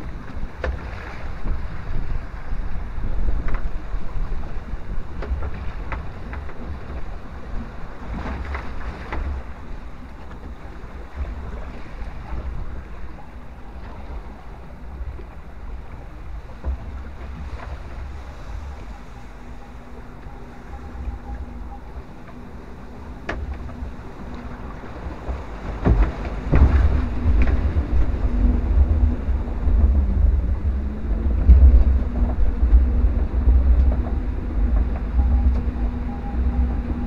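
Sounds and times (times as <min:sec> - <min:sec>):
water lapping and splashing: 0:00.0 - 0:37.0
wind buffeting microphone: 0:00.0 - 0:37.0.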